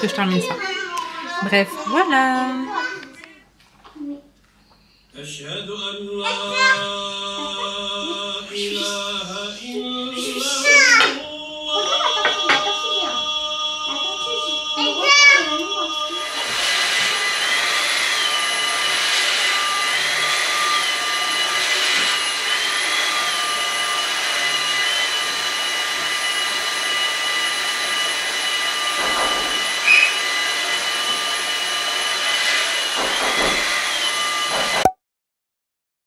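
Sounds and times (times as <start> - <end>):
vacuum cleaner running: 0.0 - 2.9, 6.0 - 34.9.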